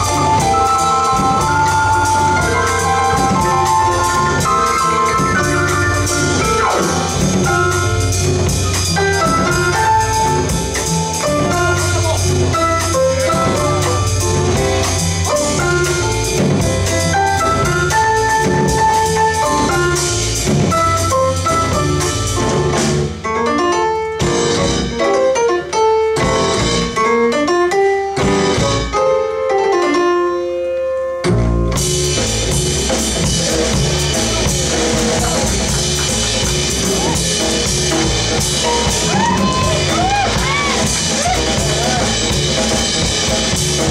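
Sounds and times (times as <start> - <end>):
upright bass: 0.0 - 29.2, 31.2 - 43.9
drum kit: 0.0 - 43.9
piano: 0.0 - 43.9.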